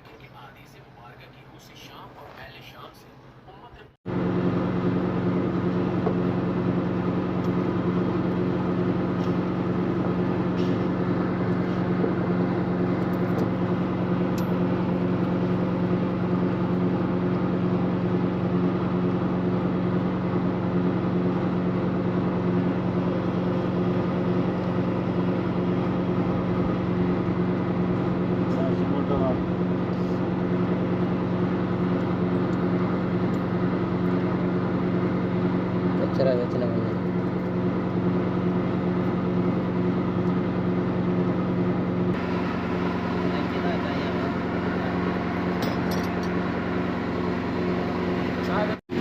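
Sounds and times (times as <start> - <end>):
concrete pump engine drone: 0.0 - 49.0.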